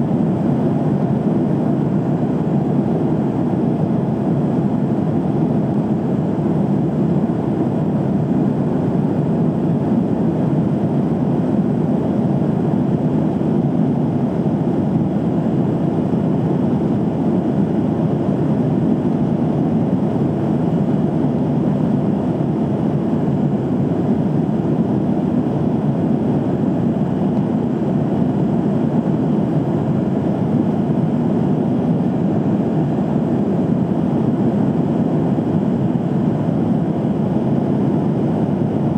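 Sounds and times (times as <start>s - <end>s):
airliner cabin noise in flight: 0.0s - 38.9s.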